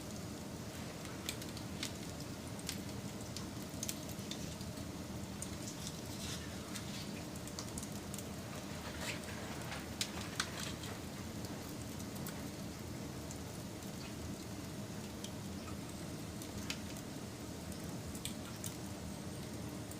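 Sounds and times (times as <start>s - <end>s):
wood fire crackling and popping: 0.0s - 19.9s.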